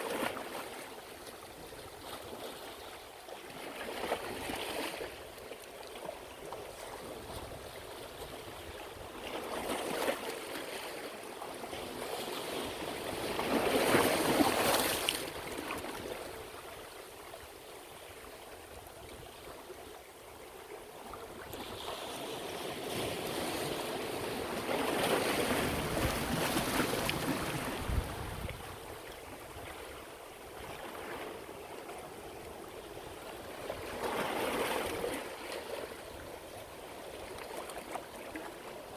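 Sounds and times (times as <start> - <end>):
sea waves breaking on shore: 0.0 - 20.0, 20.9 - 38.9.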